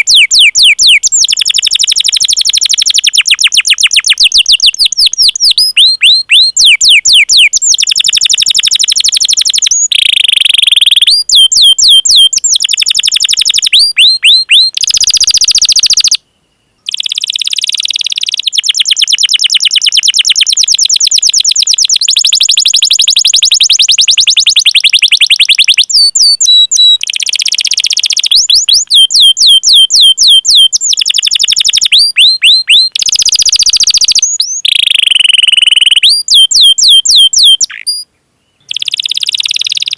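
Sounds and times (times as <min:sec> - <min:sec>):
canary singing: 0:00.0 - 0:16.2, 0:16.8 - 0:39.9.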